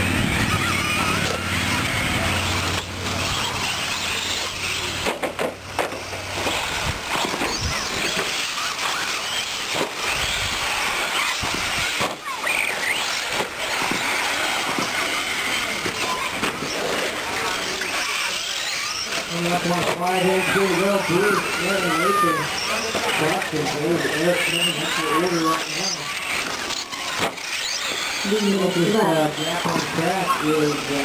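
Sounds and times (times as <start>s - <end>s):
rc truck electric motors whining: 0.0s - 31.0s.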